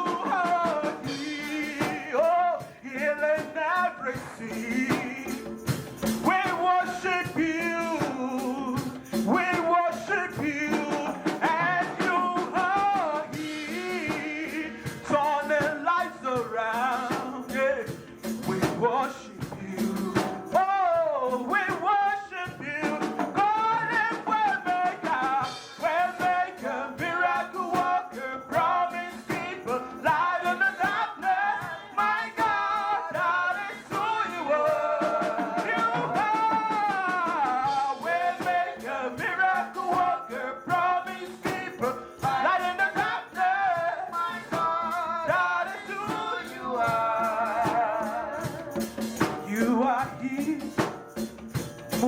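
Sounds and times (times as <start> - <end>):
person singing: 0.0 - 51.0
live band playing: 0.0 - 52.0.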